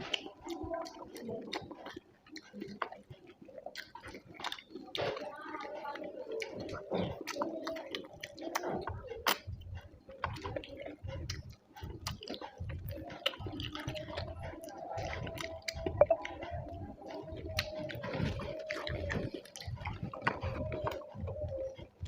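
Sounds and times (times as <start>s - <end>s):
wet chewing and lip-smacking: 0.0s - 22.0s.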